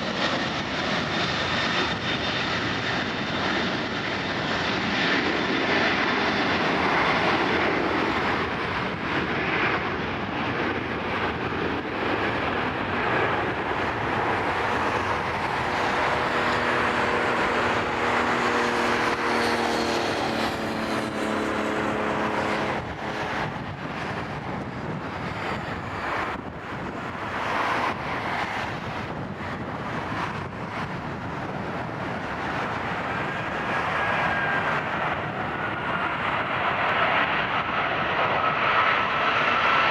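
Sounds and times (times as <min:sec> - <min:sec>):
jet engine noise: 0:00.0 - 0:39.9.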